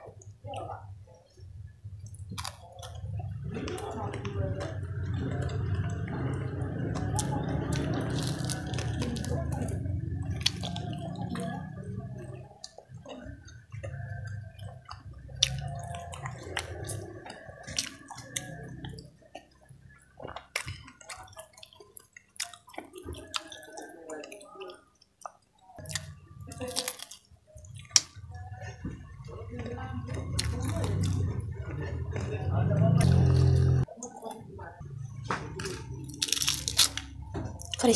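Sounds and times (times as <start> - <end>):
crunchy chewing: 2.0 - 34.5, 35.2 - 37.9.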